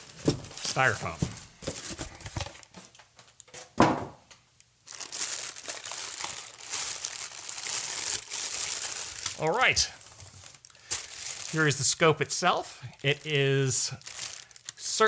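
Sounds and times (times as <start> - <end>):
plastic bags crinkling: 0.0 - 3.0, 4.8 - 12.1, 13.0 - 15.0.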